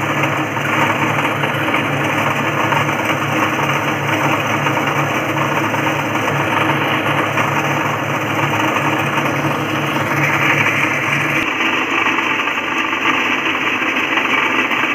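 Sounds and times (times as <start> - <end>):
rice milling machine humming: 0.0 - 14.9.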